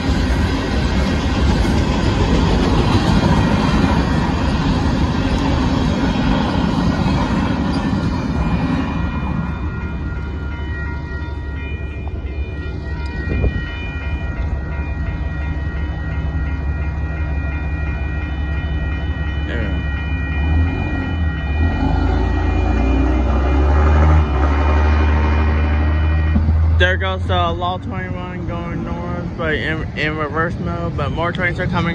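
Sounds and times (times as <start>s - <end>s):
crossing warning bell ringing: 0.0s - 31.9s
freight train cars rumbling past: 0.0s - 31.9s.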